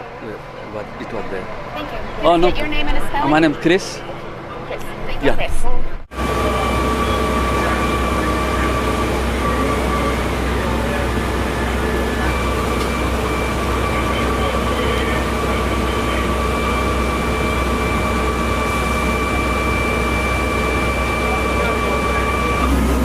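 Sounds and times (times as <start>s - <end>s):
heavy engine humming: 0.0s - 23.0s
high-pitched whine: 0.0s - 23.0s.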